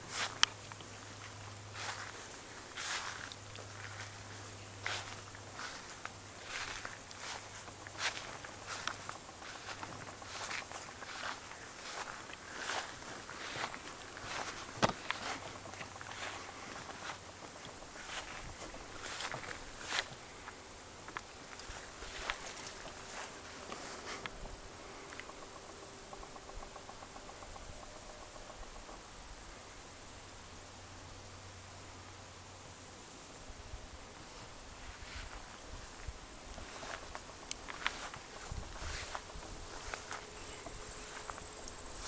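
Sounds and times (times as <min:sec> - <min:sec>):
rustles: 0:00.0 - 0:30.2, 0:33.8 - 0:42.0
insects stridulating: 0:00.0 - 0:42.0.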